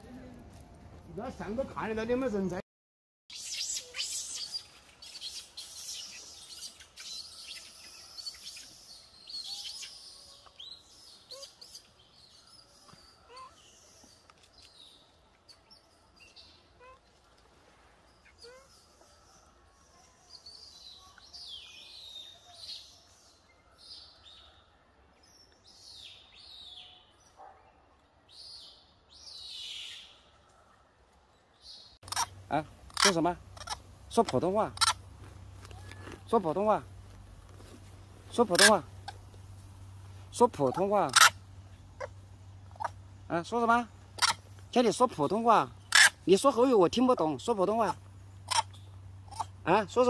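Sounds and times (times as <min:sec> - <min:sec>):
birds chirping: 0:03.3 - 0:17.4, 0:18.0 - 0:50.0.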